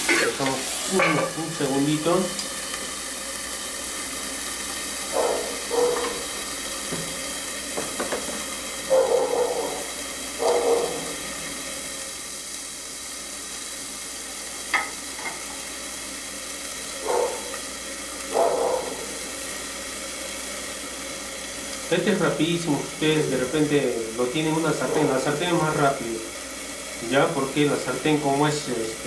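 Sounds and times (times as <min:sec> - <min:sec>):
chicken sizzling in a grill pan: 0:00.0 - 0:29.0.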